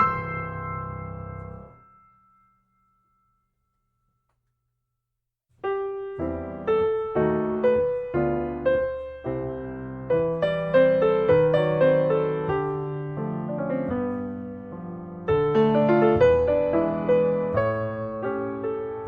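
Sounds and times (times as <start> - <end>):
piano music: 0.0 - 3.0, 5.6 - 19.0.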